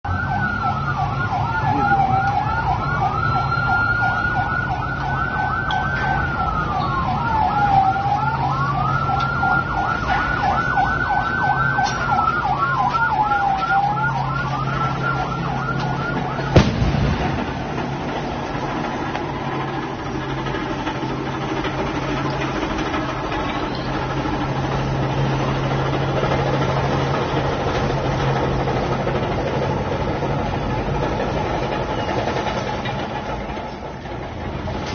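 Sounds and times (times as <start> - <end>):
emergency vehicle siren wailing: 0.0 - 34.9
heavy engine rumbling: 0.0 - 34.9.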